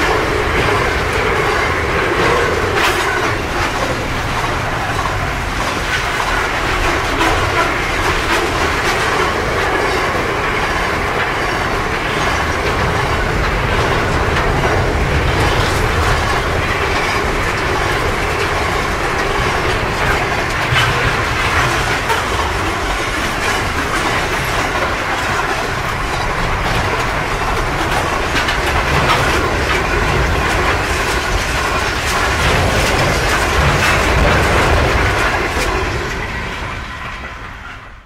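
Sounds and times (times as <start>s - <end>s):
wheels clicking over track: 0.0s - 37.4s
train wheels rumbling on rails: 0.0s - 38.0s.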